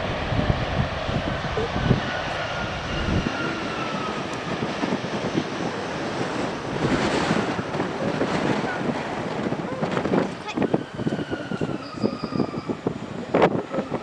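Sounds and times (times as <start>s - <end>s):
faint engine whine: 0.0s - 14.0s
jet engines running: 0.0s - 14.0s
wind buffeting microphone: 0.0s - 14.0s.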